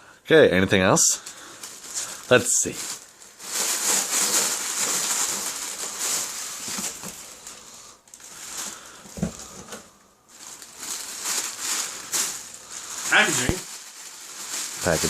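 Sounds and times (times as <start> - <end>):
packing material rustling: 1.2 - 15.0.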